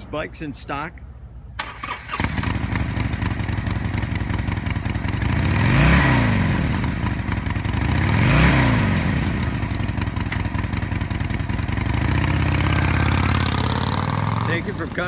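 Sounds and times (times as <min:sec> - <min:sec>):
motorcycle engine idling: 0:01.6 - 0:15.0
motorcycle engine starting: 0:01.6 - 0:15.0
motorcycle throttle blips: 0:01.6 - 0:15.0.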